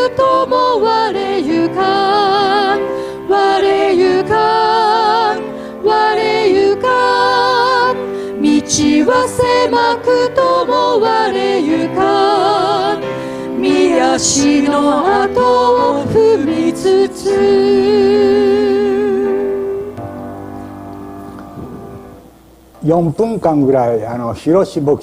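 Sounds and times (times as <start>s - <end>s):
women singing a hymn: 0.0s - 20.1s
grand piano: 0.0s - 24.9s.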